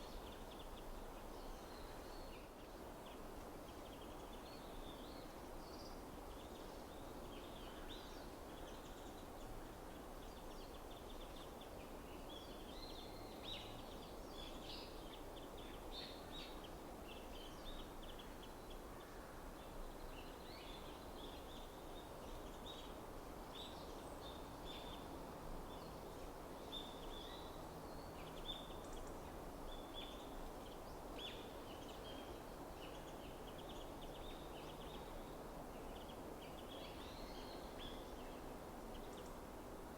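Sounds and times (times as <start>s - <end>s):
low background hiss: 0.0s - 39.9s.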